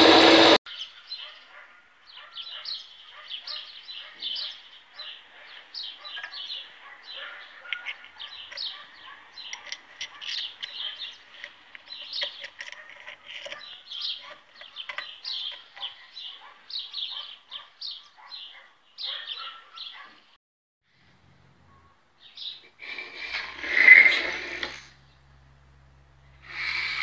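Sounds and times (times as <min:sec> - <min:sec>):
small birds chirping: 0:00.7 - 0:20.4, 0:21.6 - 0:24.0.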